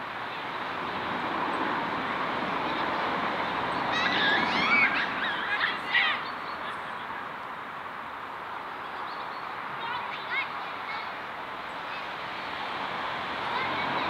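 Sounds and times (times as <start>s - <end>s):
birds chirping: 0.3s - 12.6s.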